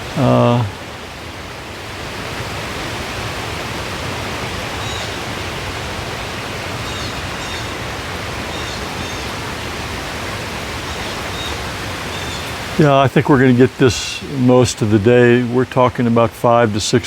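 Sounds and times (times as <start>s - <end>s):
falling rain: 0.0s - 17.0s
wind through trees: 0.0s - 17.0s.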